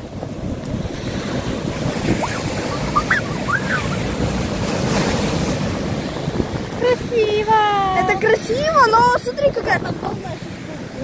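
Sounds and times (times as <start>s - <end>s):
surf breaking over rocks: 0.0s - 11.0s
wind buffeting microphone: 0.0s - 11.0s.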